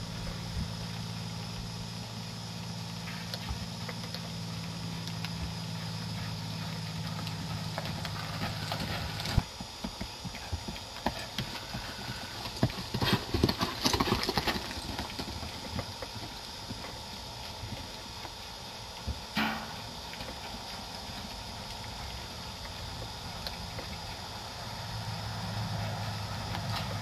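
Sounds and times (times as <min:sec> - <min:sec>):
steady engine hum: 0:00.0 - 0:27.0
horse hooves clopping on hard ground: 0:00.2 - 0:24.6.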